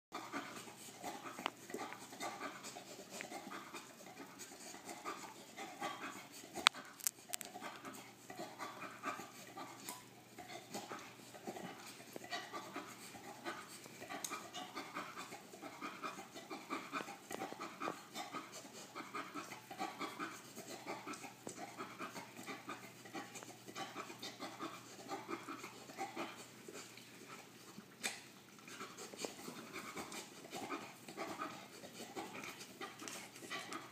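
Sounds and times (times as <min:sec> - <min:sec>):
dog panting: 0:00.2 - 0:33.9.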